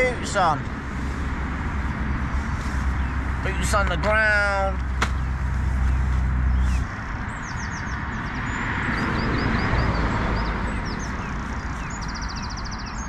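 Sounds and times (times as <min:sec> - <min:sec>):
low rumble: 0:00.0 - 0:12.0
road traffic rushing: 0:00.0 - 0:13.0
small birds chirping: 0:00.0 - 0:13.0.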